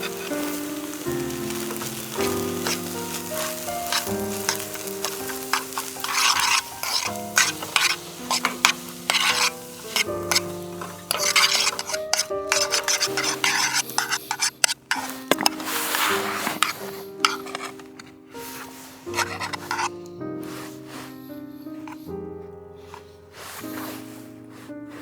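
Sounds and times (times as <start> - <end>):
food sizzling in a frying pan: 0.0 - 17.8, 18.4 - 21.1
background music with held notes: 0.0 - 25.0
utensil scraping a pan: 0.0 - 25.0.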